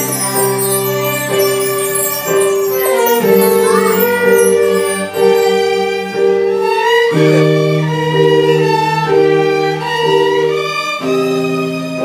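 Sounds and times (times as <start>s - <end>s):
small band playing slow song: 0.0s - 12.0s
violin melody: 0.0s - 12.0s.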